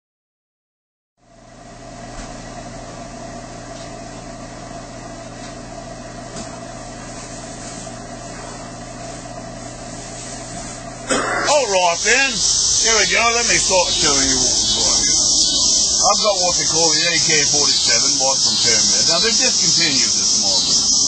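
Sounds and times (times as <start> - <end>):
steady mechanical hum: 1.2 - 21.0.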